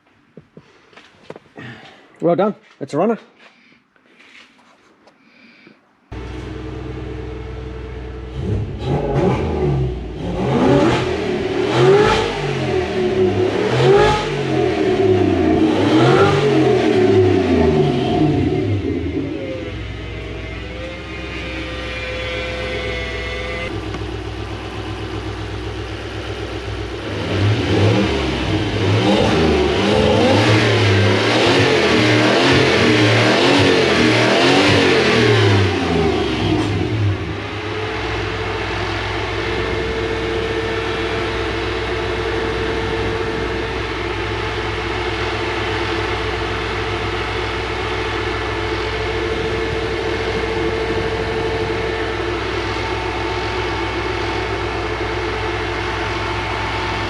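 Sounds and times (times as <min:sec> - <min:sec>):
car engine revving and idling: 0:06.1 - 0:57.0.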